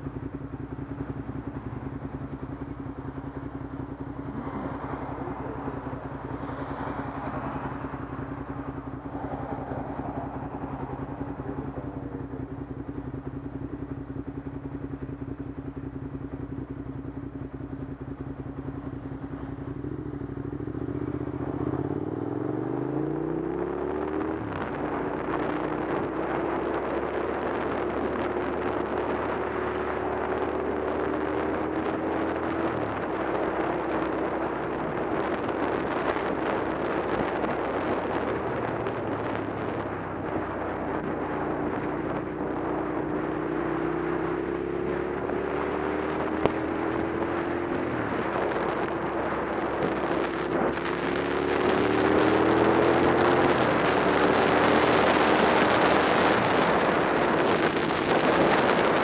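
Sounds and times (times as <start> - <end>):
wind rushing over microphone: 0.0 - 15.9, 18.5 - 59.0
motorcycle engine running: 0.0 - 59.0.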